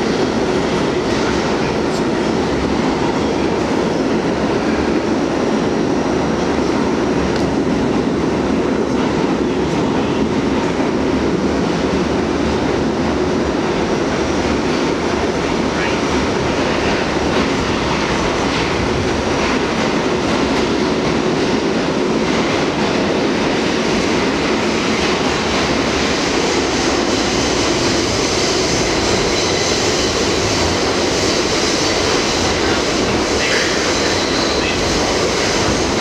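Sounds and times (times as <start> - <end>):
subway wheels rumbling on rail: 0.0 - 36.0.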